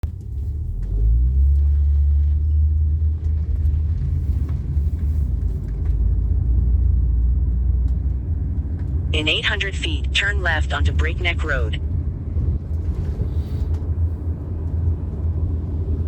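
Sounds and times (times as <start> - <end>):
car road rumble inside cabin: 0.0 - 16.0.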